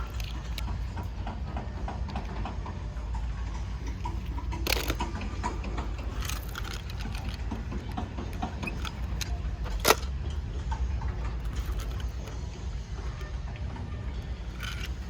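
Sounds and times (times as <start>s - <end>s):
light clicks and rattles: 0.0s - 15.0s.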